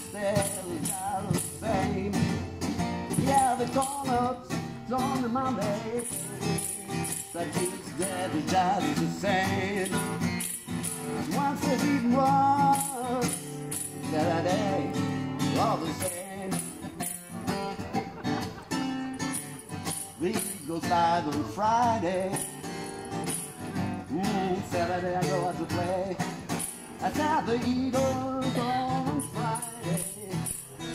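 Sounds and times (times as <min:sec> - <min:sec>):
jingling percussion: 0:00.0 - 0:30.9
strummed acoustic guitar: 0:00.0 - 0:30.9.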